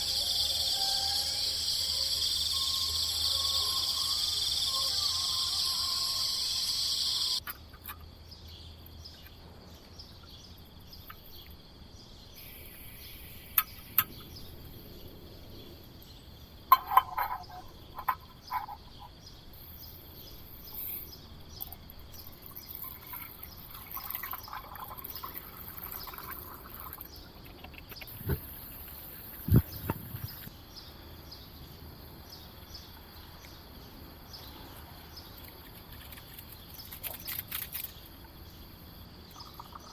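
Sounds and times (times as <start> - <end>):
insects and frogs calling: 0.0 - 39.9.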